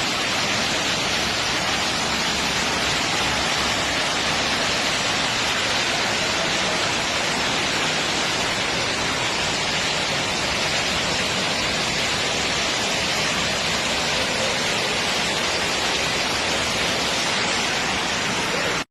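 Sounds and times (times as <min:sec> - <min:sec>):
water rushing: 0:00.0 - 0:18.9.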